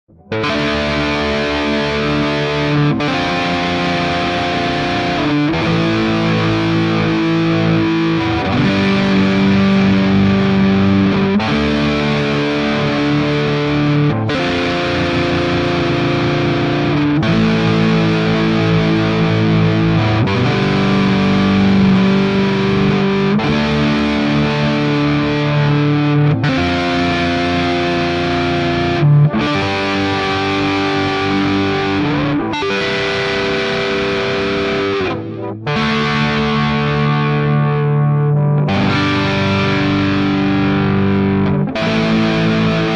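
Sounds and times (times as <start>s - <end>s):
distorted electric guitar chords: 0.0s - 42.9s.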